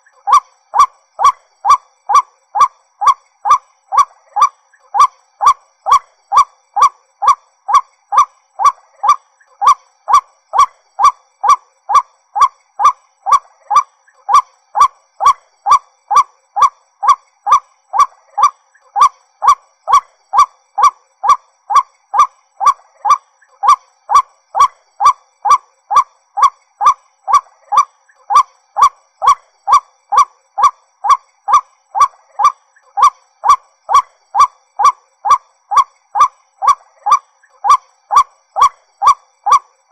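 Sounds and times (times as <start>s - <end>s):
waterhen calling: 0.0s - 39.7s.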